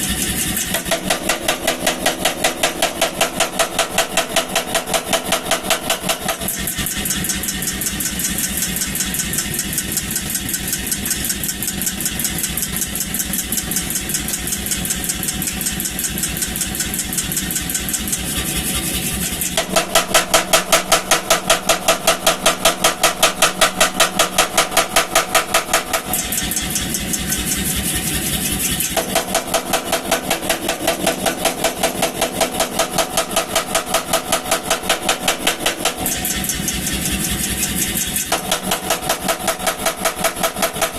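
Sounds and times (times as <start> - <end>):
power hammer pounding hot steel: 0.0 - 40.9.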